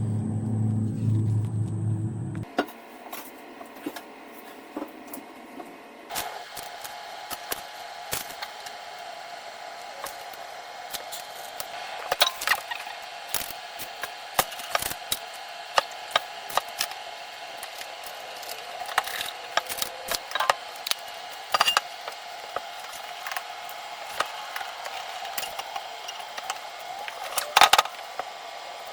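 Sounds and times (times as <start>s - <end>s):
steady hum: 0.0s - 28.9s.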